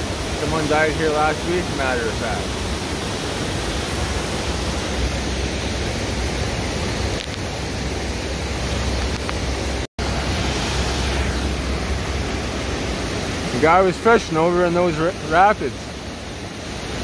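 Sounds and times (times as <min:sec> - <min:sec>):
river rapids roaring: 0:00.0 - 0:17.0.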